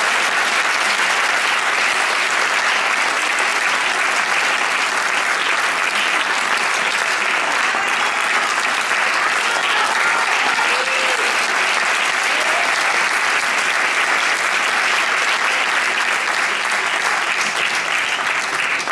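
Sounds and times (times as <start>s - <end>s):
audience clapping: 0.0s - 18.9s.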